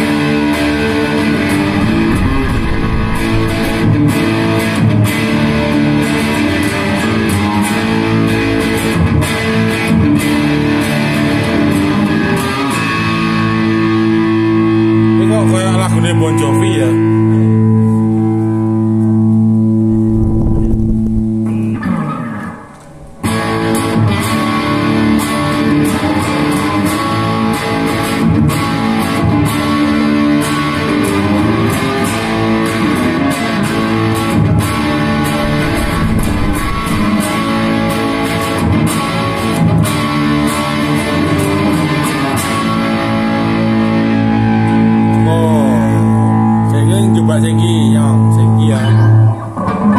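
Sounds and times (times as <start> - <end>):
distorted electric guitar: 0.0 - 49.9.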